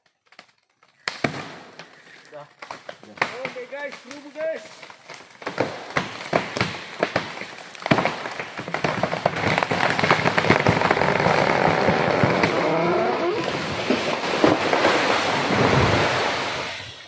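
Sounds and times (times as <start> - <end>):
tree trunk cracking and splintering: 0.0 - 16.7
falling tree crashing: 0.2 - 17.0.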